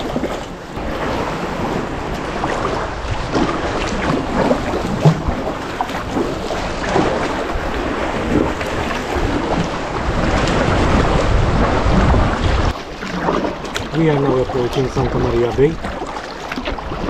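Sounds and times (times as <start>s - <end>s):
water sloshing around kayak: 0.0s - 17.0s
wind buffeting microphone: 0.0s - 17.0s.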